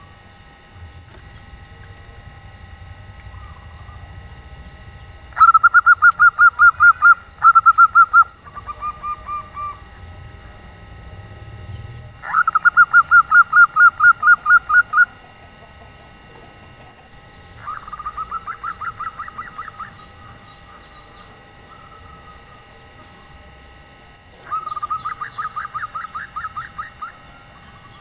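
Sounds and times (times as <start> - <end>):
dove cooing: 0.8 - 23.6, 24.3 - 28.0.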